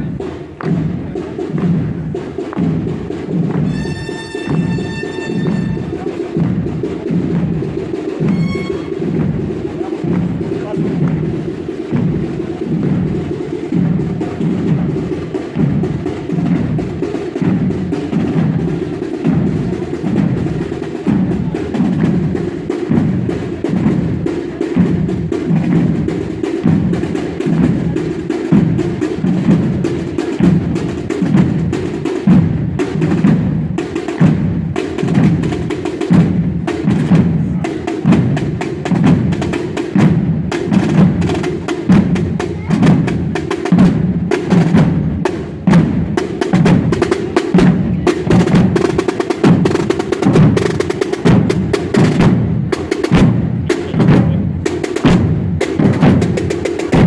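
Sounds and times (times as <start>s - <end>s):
drums beating march rhythm: 0.0s - 57.0s.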